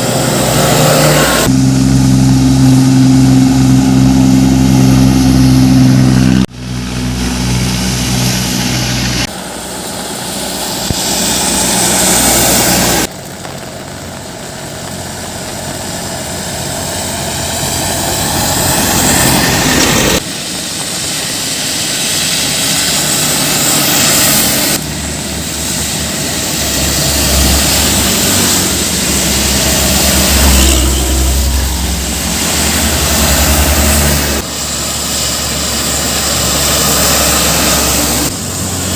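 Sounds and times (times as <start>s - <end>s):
diesel trucks and buses driving past: 0.0s - 38.9s.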